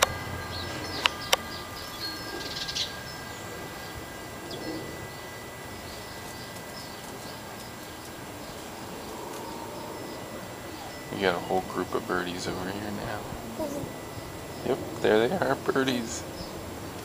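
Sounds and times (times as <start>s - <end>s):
bell-like strikes: 0.0s - 16.9s
small birds chirping: 0.0s - 17.0s.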